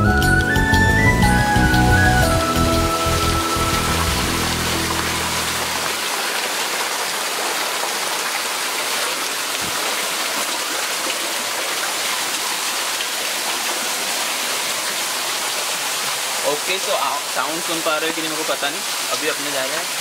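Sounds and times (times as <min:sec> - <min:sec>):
waterfall rushing: 0:00.0 - 0:20.0
water splashing onto rocks: 0:03.0 - 0:20.0.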